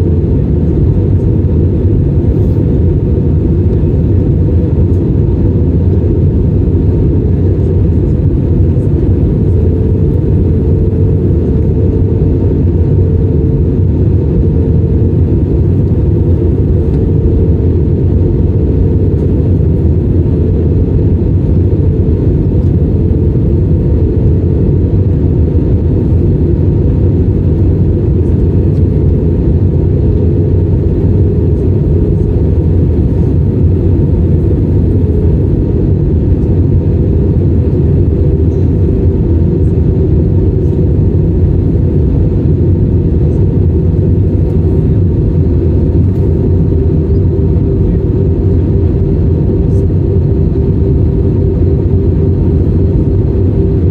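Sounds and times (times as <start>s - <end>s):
airflow over fuselage: 0.0s - 53.9s
jet engine rumble: 0.0s - 53.9s.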